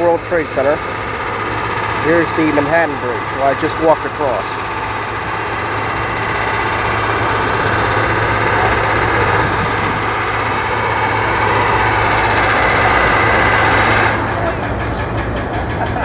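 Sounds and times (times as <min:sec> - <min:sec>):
low hum: 0:00.0 - 0:16.0
motor vehicle noise: 0:00.0 - 0:16.0.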